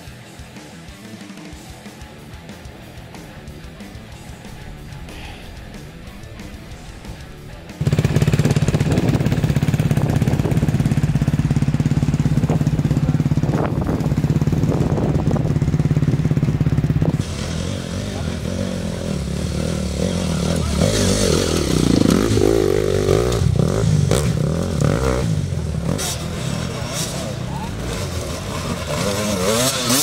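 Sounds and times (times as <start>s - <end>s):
motorcycle engine running steadily: 0.0s - 30.0s
dirt bike revving: 1.4s - 30.0s.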